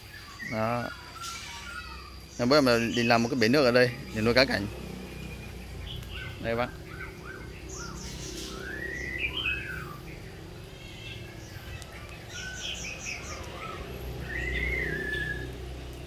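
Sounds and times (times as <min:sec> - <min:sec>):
high bird chirps: 0:00.0 - 0:16.0
songbirds whistling: 0:00.0 - 0:16.0.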